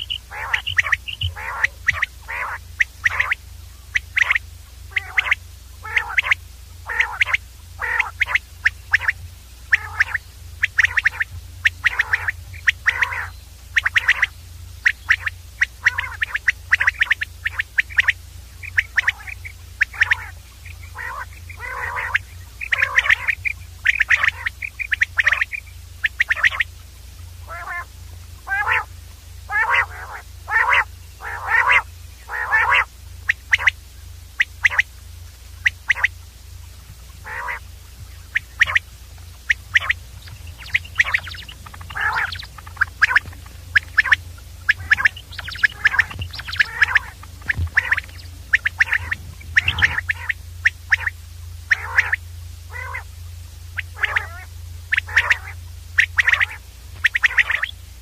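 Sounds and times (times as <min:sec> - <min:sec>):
quail calling: 0:00.0 - 0:57.8
steady low hum: 0:00.0 - 0:58.0.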